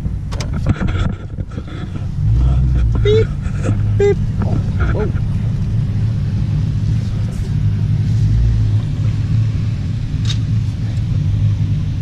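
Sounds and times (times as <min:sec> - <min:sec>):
pickup truck engine rumbling: 0:00.0 - 0:12.0.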